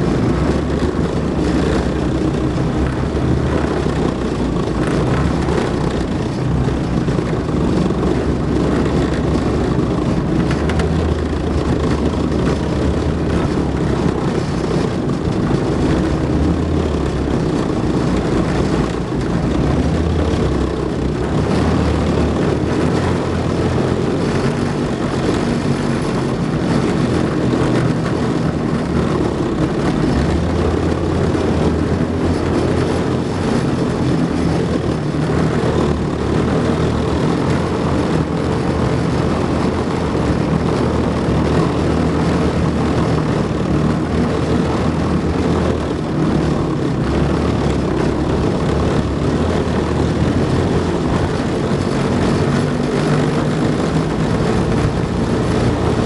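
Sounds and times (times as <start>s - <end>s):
tracked vehicle engine and tracks: 0.0s - 56.0s.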